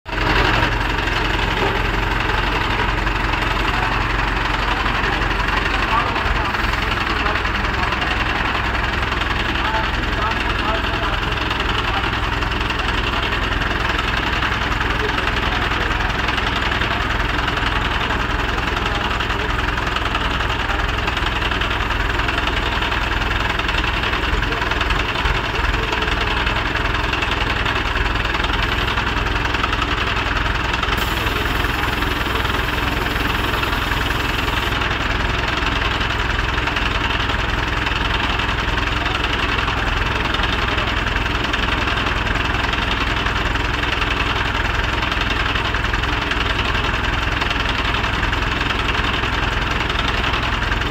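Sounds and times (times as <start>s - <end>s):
diesel engine clattering idle: 0.1s - 50.9s.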